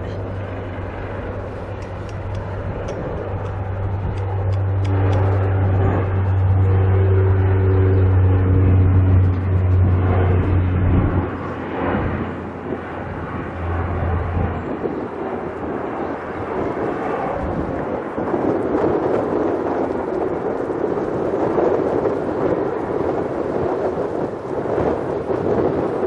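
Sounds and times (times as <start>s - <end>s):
turboprop engines humming: 0.0s - 26.0s.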